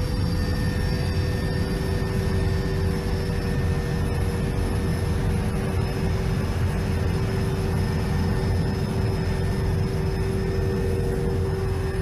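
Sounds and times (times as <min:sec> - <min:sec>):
constant whine: 0:00.0 - 0:12.0
helicopter rotor and turbine rumble: 0:00.0 - 0:12.0.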